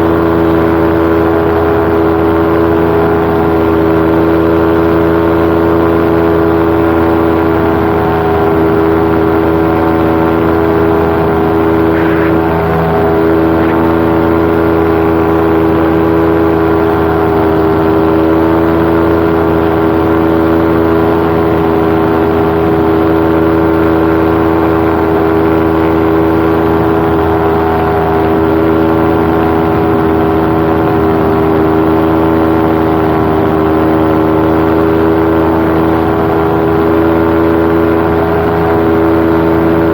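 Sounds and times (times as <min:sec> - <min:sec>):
paramotor engine and propeller drone: 0:00.0 - 0:39.9.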